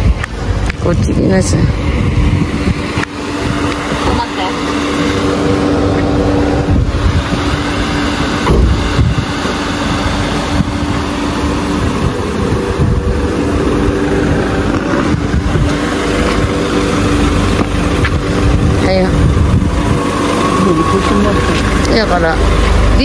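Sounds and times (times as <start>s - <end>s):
low rumble on microphone: 0.0s - 23.0s
vehicle engine idling: 0.0s - 23.0s.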